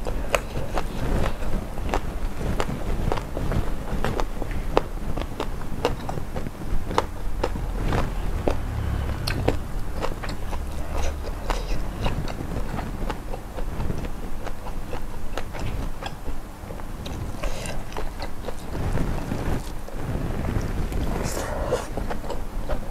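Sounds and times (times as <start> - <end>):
person chewing crunchy food: 0.0 - 19.9.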